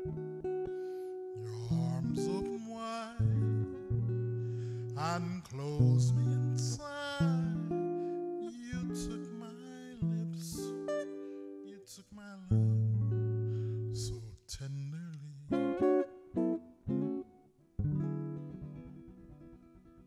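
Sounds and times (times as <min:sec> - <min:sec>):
fingerstyle acoustic guitar: 0:00.0 - 0:20.0.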